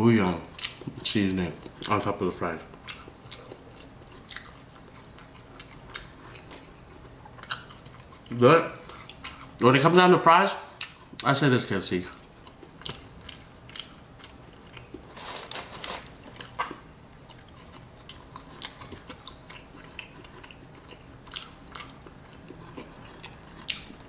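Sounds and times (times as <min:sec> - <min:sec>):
chewing and crunching fries: 0:00.5 - 0:09.9, 0:10.8 - 0:24.0.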